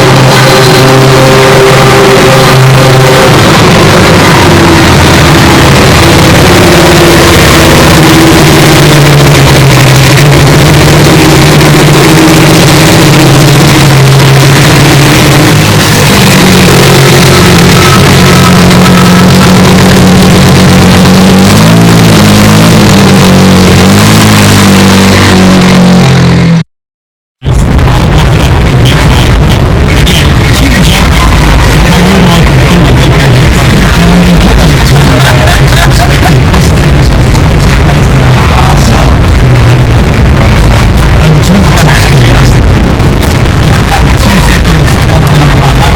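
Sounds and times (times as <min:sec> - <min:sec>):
loud race car engine: 0:00.0 - 0:26.6, 0:27.4 - 0:45.9.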